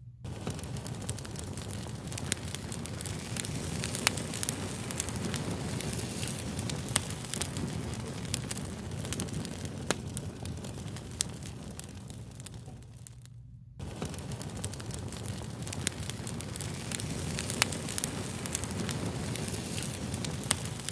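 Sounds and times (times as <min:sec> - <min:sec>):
fire crackling and popping: 0:00.2 - 0:20.9.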